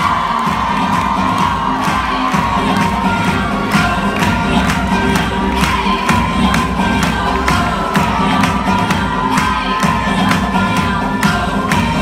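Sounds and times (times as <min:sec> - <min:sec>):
crowd noise: 0:00.0 - 0:12.0
dance music with steady beat: 0:00.0 - 0:12.0.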